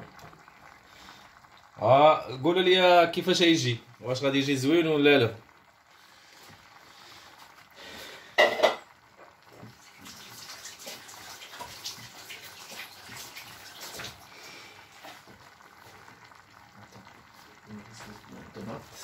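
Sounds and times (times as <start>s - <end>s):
food bubbling and sizzling: 0.0s - 19.0s.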